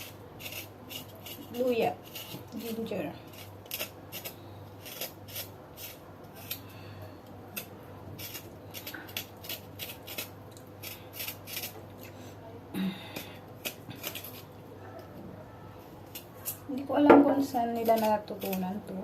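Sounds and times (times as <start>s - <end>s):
scraping ginger skin: 0.0s - 11.8s, 13.0s - 14.6s, 16.0s - 16.7s, 17.3s - 19.0s
faint low hum: 0.0s - 19.0s.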